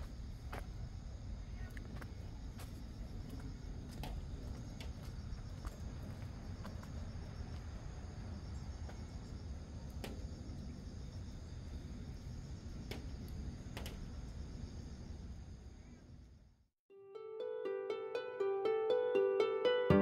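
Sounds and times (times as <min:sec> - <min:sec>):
crickets chirping: 0:00.0 - 0:16.7.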